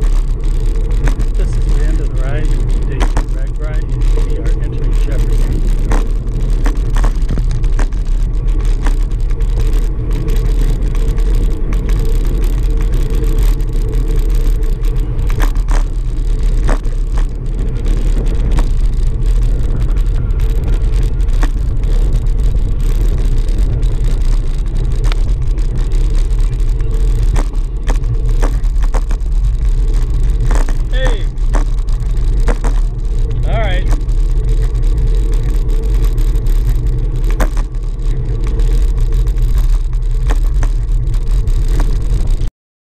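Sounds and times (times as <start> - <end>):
wind rumbling on microphone: 0.0 - 42.5
bicycle clicks and knocks: 2.5 - 42.5.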